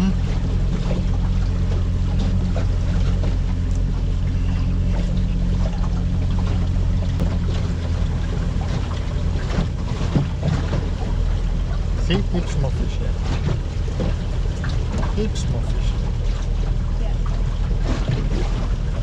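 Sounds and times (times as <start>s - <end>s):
boat engine humming: 0.0s - 19.0s
water noise: 0.0s - 19.0s.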